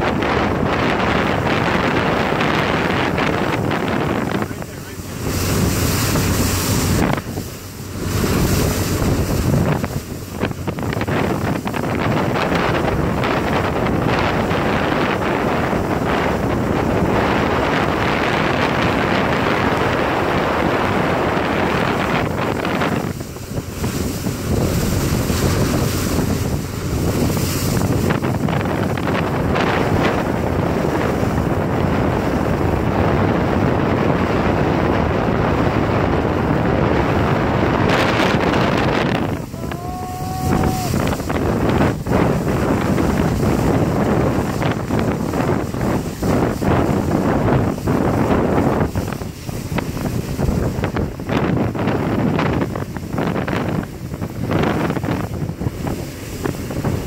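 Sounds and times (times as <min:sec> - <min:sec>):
boat engine: 0:00.0 - 0:57.0
rushing water: 0:00.0 - 0:57.0
wind buffeting microphone: 0:00.0 - 0:57.0.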